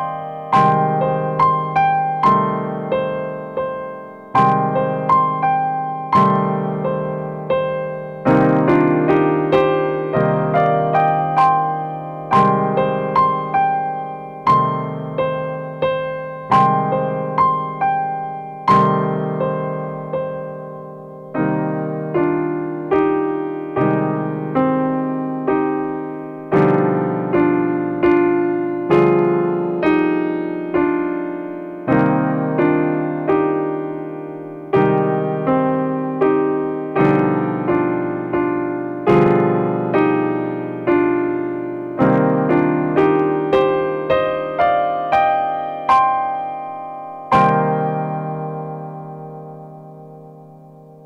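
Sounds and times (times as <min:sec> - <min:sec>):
slow solo piano piece: 0:00.0 - 0:51.0.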